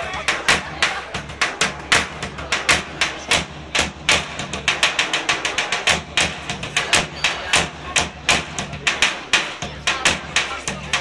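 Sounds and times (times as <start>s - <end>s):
drum beaten with a stick: 0.0s - 11.0s.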